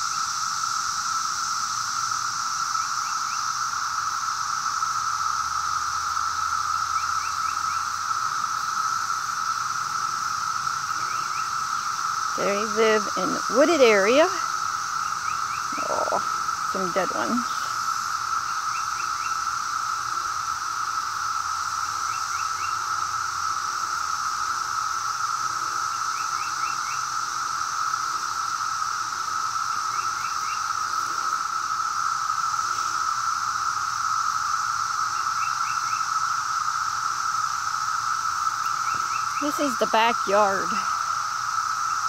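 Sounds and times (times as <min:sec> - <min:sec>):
cicadas droning: 0:00.0 - 0:42.0.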